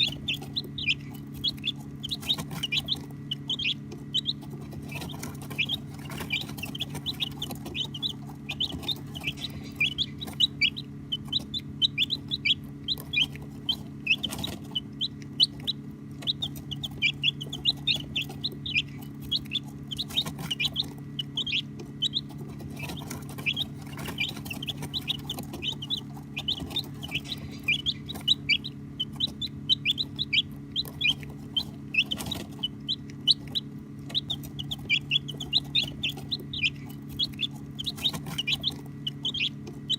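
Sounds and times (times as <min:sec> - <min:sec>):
baby chicks chirping: 0:00.0 - 0:39.9
low hum: 0:00.0 - 0:39.9.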